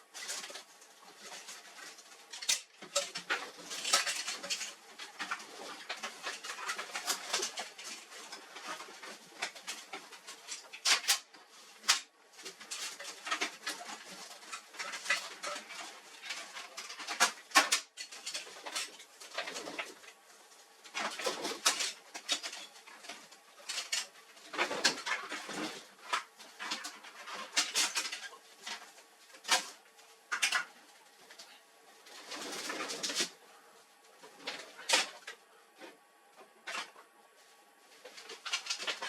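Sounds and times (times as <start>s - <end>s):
plastic and metal parts clattering: 0.1s - 33.4s, 34.2s - 36.0s, 38.0s - 39.0s.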